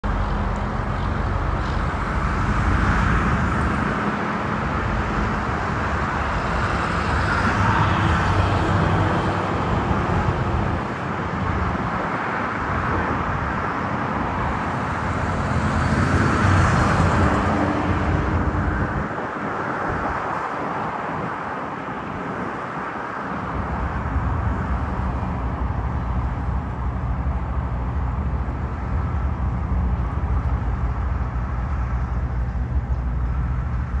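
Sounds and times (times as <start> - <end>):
distant jet engines roaring: 0.0 - 34.0
faint engine whine: 0.0 - 34.0
wind buffeting microphone: 0.1 - 34.0.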